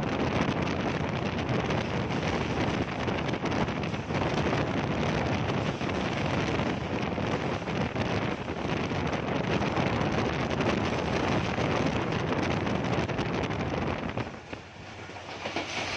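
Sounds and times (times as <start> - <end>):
wind rushing on microphone: 0.0 - 15.9
passenger train running: 0.6 - 15.9.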